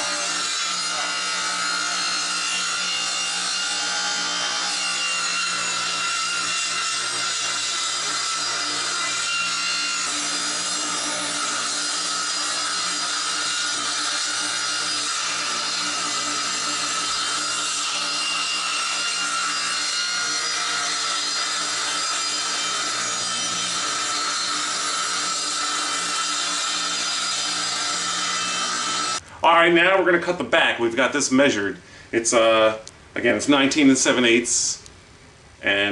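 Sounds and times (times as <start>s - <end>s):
table saw cutting board: 0.0s - 29.2s.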